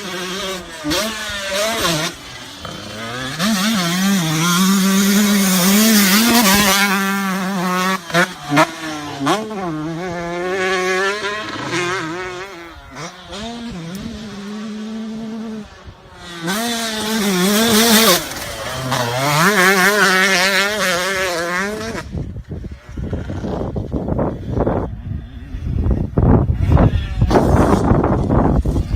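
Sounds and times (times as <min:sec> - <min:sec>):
motocross bike engines revving: 0:00.0 - 0:28.9.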